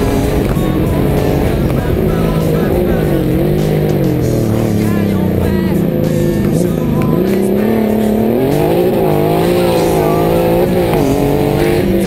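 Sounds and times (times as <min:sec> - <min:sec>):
car engine revving and shifting: 0:00.0 - 0:12.0.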